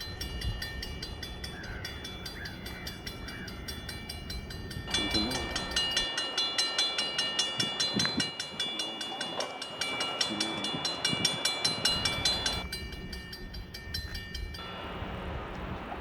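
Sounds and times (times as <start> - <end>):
railroad crossing bell ringing: 0.0 - 15.2
train rumble: 0.0 - 16.0.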